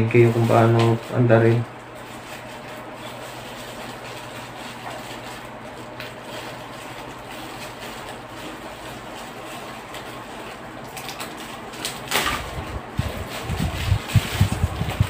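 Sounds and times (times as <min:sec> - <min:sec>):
plastic packaging rustling: 0:00.0 - 0:15.0
room noise hum and hiss: 0:00.0 - 0:15.0.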